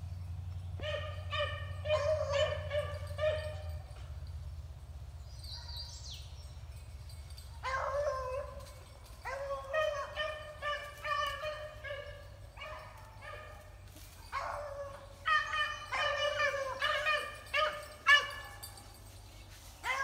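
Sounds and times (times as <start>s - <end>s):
dogs baying: 0.8s - 4.3s, 7.1s - 20.0s.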